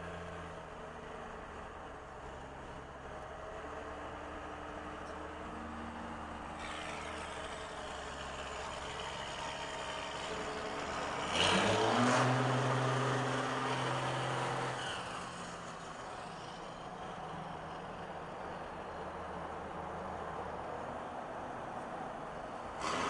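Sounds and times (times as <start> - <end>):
diesel engine from inside cab: 0.0 - 23.0.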